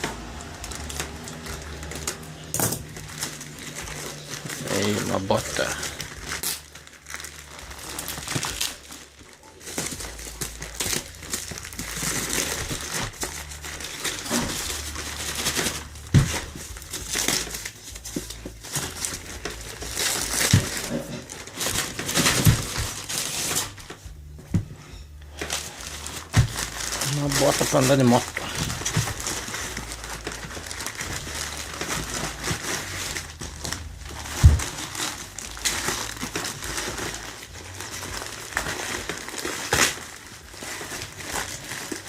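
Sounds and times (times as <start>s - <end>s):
packaging crinkling: 0.0s - 42.0s.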